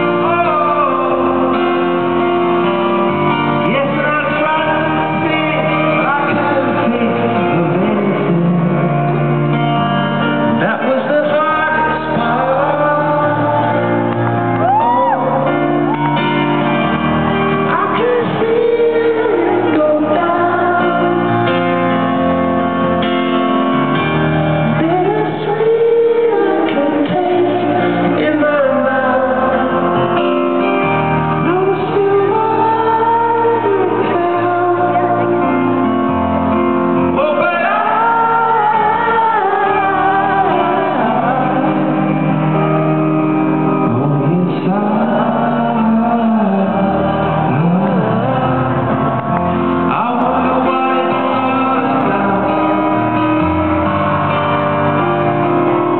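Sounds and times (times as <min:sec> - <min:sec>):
person singing: 0:00.0 - 0:09.6, 0:10.2 - 0:22.2, 0:23.9 - 0:55.9
audience voices: 0:00.0 - 0:55.9
live rock band playing: 0:00.0 - 0:55.9.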